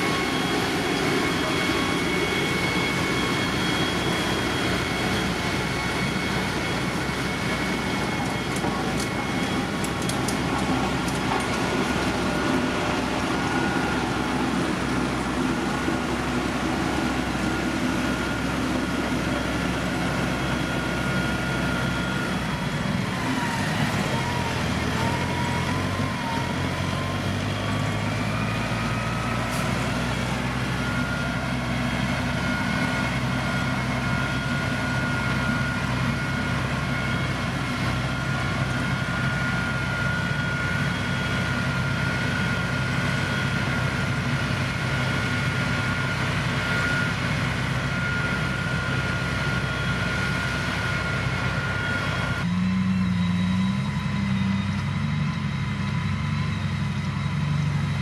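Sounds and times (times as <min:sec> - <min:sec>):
engine whine: 0:00.0 - 0:58.0
heavy diesel engine running: 0:00.0 - 0:58.0.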